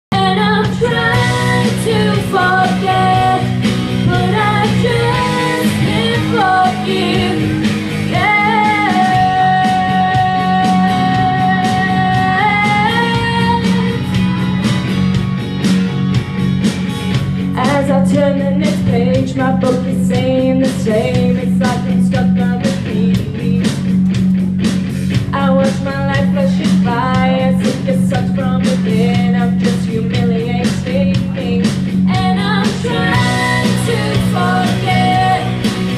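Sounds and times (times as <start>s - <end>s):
woman singing into microphone: 0.1s - 14.0s, 17.6s - 23.8s, 25.3s - 35.9s
amplified backing music: 0.1s - 35.9s.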